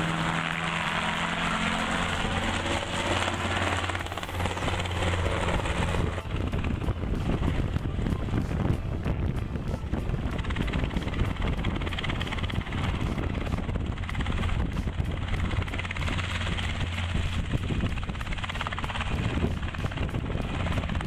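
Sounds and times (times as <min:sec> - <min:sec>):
helicopter hovering: 0:00.0 - 0:21.0.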